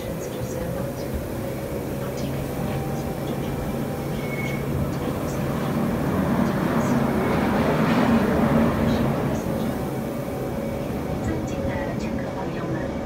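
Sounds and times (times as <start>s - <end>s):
electric train running: 0.0s - 13.0s.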